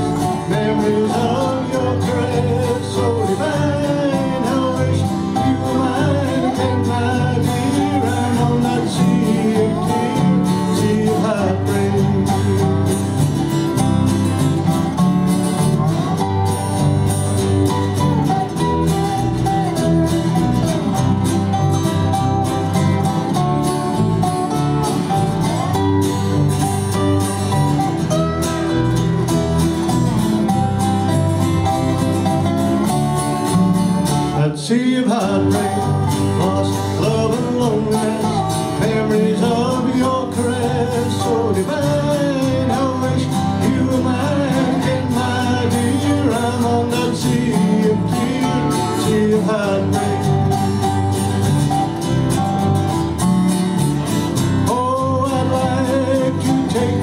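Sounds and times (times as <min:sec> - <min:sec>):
country band playing: 0:00.0 - 0:57.0.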